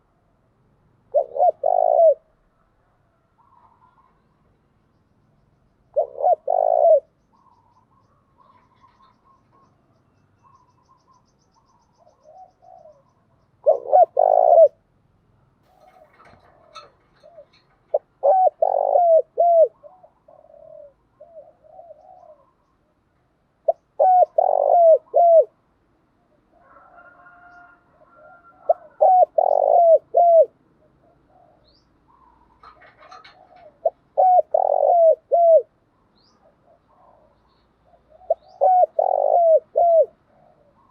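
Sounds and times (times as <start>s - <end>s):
dove cooing: 1.0s - 4.3s, 5.9s - 9.8s, 10.4s - 14.9s, 15.7s - 22.9s, 23.6s - 25.6s, 26.2s - 40.9s.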